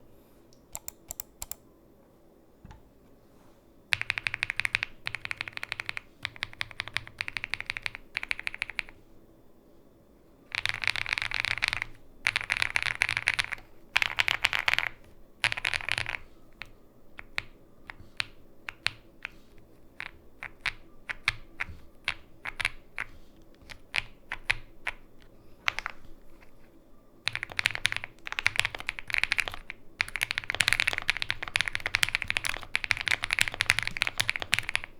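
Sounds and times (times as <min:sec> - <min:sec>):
mechanical keyboard typing: 0:00.7 - 0:01.6, 0:03.9 - 0:08.9, 0:10.5 - 0:19.4, 0:20.0 - 0:26.6, 0:27.2 - 0:34.9.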